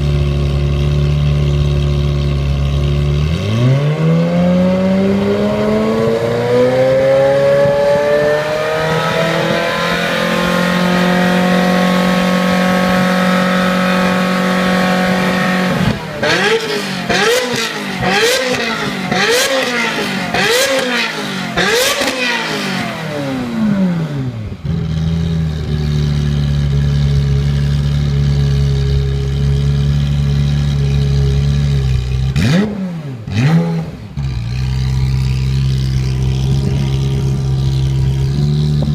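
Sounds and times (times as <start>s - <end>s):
sports car engine revving: 0.0s - 38.9s.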